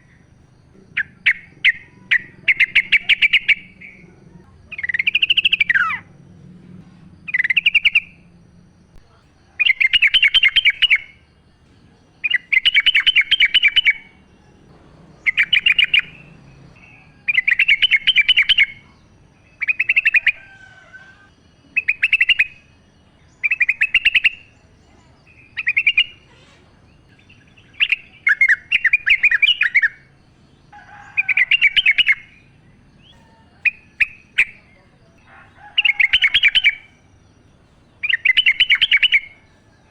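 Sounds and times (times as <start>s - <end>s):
bird singing rapid phrase: 0.0s - 39.9s.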